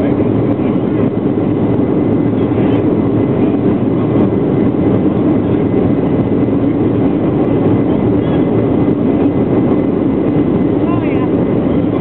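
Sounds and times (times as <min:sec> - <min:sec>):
jet engines rushing in cabin: 0:00.0 - 0:12.0.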